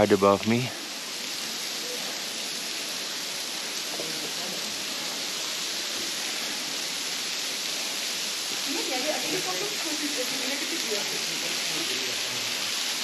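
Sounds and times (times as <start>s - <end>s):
small waterfall hissing: 0.0s - 13.0s.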